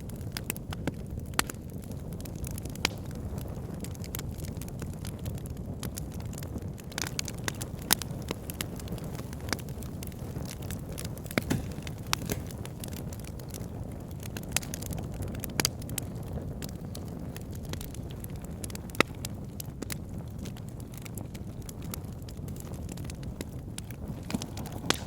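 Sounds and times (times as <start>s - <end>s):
burning wood crackling and popping: 0.0s - 25.0s
low rumble of flames: 0.0s - 25.0s.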